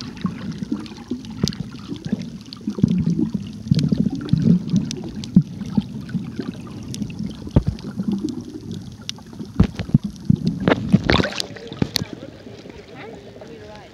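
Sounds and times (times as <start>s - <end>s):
muffled underwater rumble: 0.0s - 13.9s
splashes: 0.0s - 13.9s.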